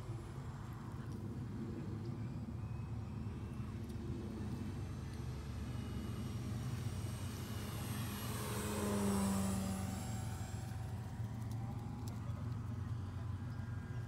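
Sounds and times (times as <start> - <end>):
model plane engine flyby: 0.0 - 14.0.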